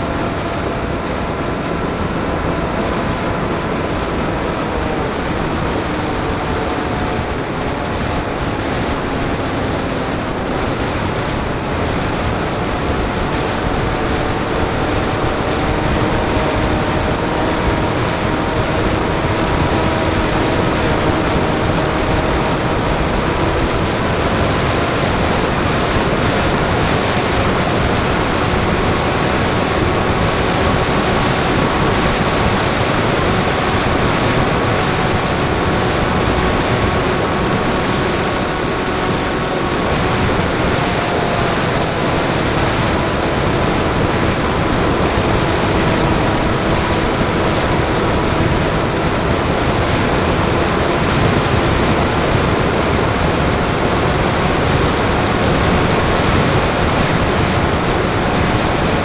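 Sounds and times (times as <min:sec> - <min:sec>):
airflow rushing over microphone: 0:00.0 - 0:59.0
faint motor and propeller whine: 0:00.0 - 0:59.0.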